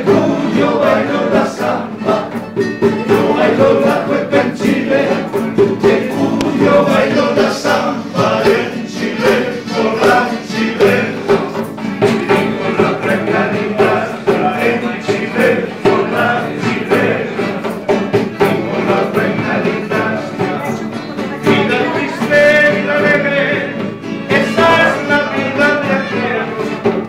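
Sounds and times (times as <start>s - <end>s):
hand drum tapping: 0.0s - 27.0s
men singing together: 0.0s - 27.0s
strummed guitars: 0.0s - 27.0s.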